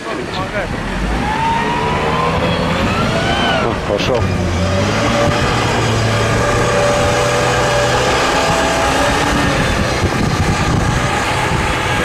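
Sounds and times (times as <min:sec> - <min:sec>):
car engine running hard: 0:00.0 - 0:12.0.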